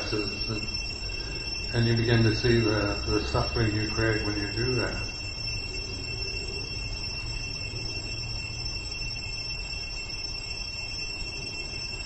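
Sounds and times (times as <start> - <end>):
low hum: 0.0 - 12.0
thin high tones: 0.0 - 12.0.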